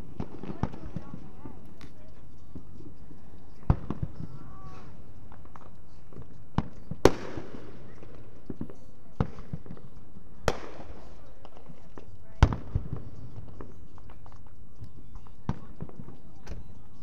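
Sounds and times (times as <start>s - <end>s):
fireworks bangs: 0.0s - 16.7s.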